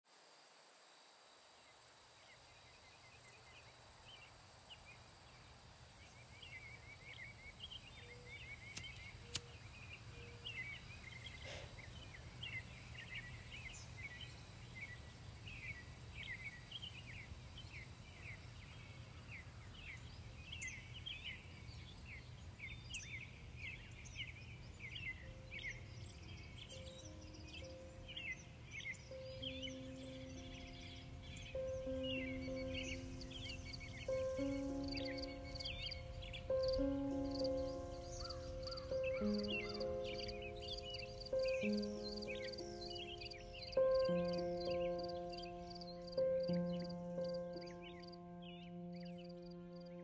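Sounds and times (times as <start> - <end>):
small birds chirping: 1.7 - 50.0.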